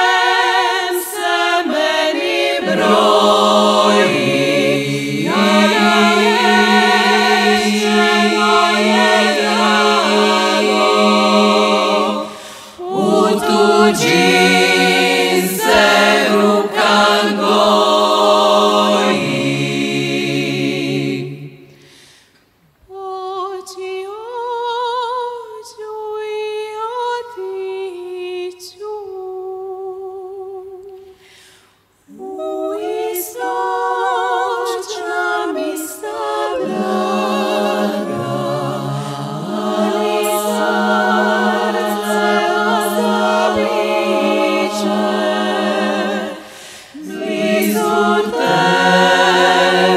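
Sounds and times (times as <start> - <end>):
women singing in harmony: 0.0 - 21.8, 22.9 - 31.2, 32.0 - 49.9.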